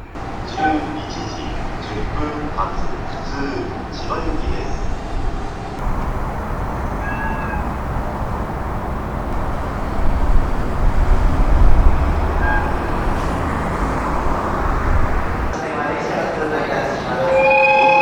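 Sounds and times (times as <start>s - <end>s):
high wheel squeals: 0.0s - 5.0s, 5.8s - 18.0s
train rumbling past: 0.0s - 18.0s.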